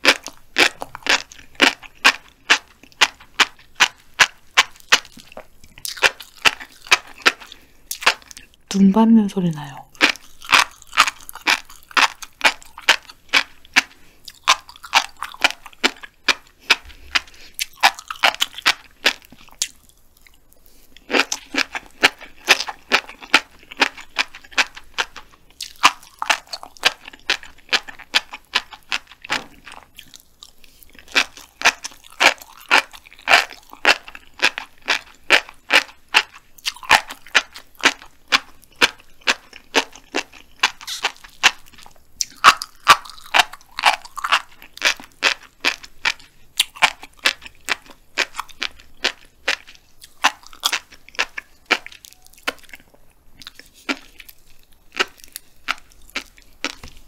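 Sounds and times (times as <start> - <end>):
fish roe crunching while chewed: 0.0 - 8.8, 9.9 - 57.0.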